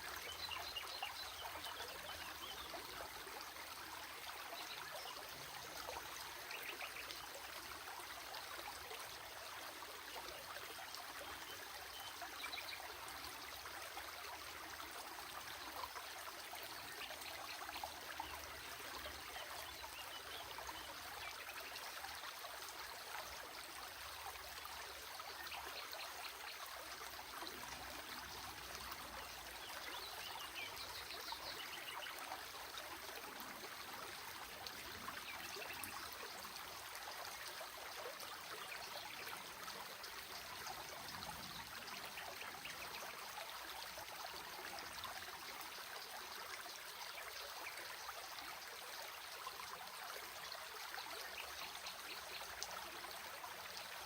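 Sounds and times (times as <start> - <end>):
small stream trickling: 0.0 - 54.0.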